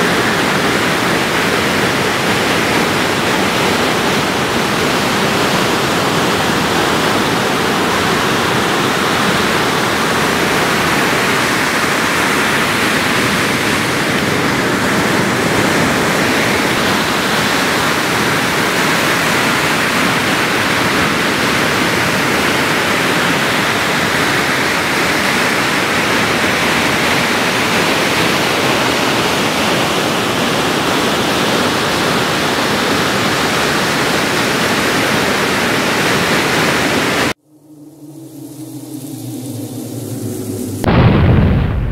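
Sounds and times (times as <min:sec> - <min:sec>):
ocean surf breaking: 0:00.0 - 0:37.4, 0:38.7 - 0:41.9.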